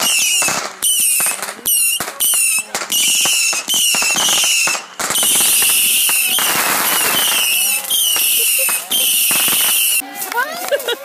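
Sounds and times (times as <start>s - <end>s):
whistling fireworks: 0.0s - 10.0s.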